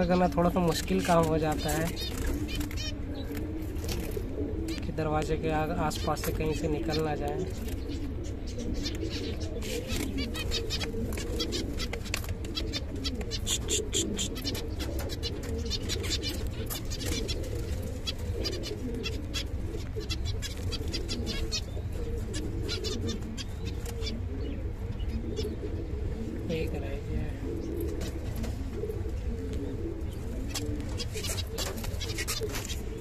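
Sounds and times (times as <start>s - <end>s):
finches chirping: 0.0s - 28.1s, 28.7s - 33.0s
birds fluttering: 0.0s - 33.0s
pigeons cooing: 0.0s - 33.0s.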